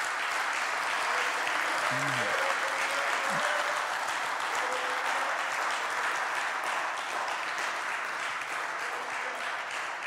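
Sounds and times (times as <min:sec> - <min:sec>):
congregation applauding: 0:00.0 - 0:10.0.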